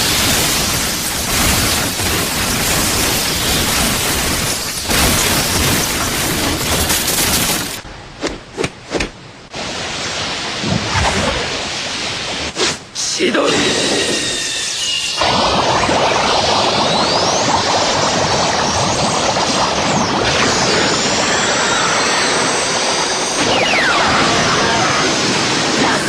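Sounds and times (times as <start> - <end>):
electric crackling hiss: 0.0 - 7.8, 9.6 - 26.0
sharp electric crackles: 0.0 - 7.8, 9.5 - 26.0.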